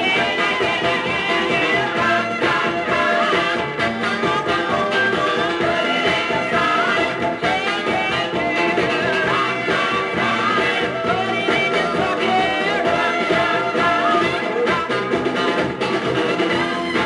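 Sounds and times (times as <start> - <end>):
rock and roll vocal group record: 0.0 - 17.0.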